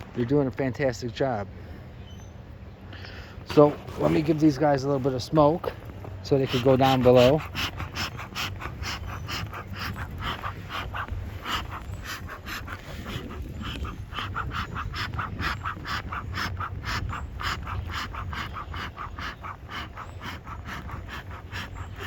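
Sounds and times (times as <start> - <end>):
bee smoker bellows puffing air: 3.4 - 22.0.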